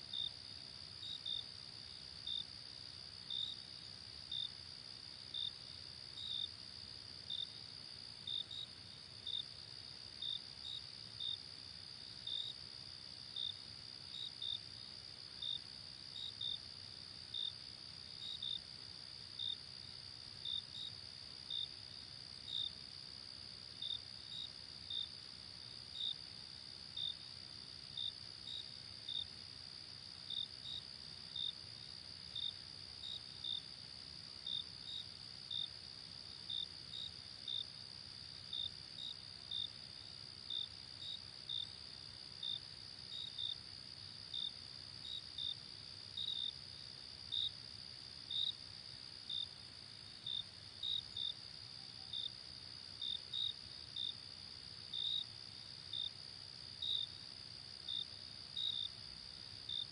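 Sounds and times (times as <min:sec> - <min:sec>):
insect chirps: 0:00.0 - 0:59.9.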